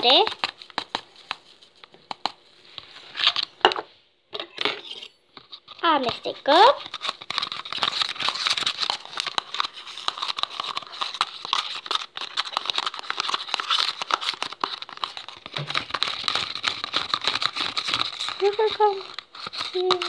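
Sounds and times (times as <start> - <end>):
fork stirring slime in bowl: 0.0 - 3.0, 4.8 - 20.0.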